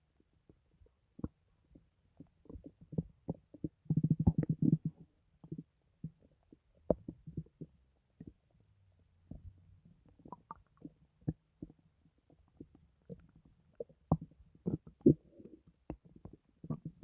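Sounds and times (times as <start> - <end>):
faint low stomach rumble: 0.0 - 17.0
stomach gurgling: 0.1 - 17.0.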